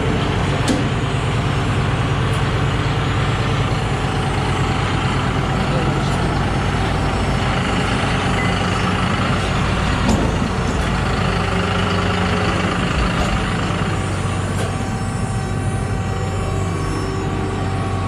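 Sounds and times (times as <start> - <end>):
farm vehicle engine running: 0.0 - 18.0.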